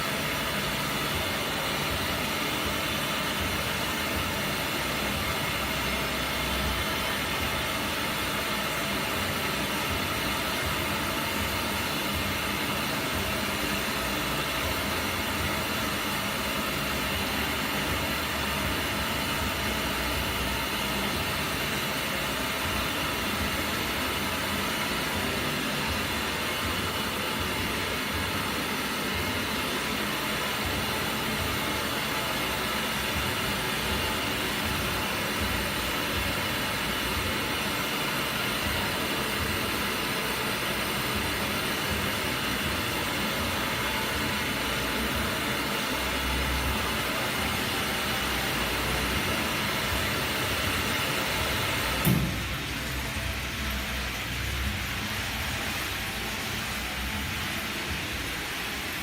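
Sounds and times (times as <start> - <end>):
toilet cistern refilling hiss: 0.0 - 59.0.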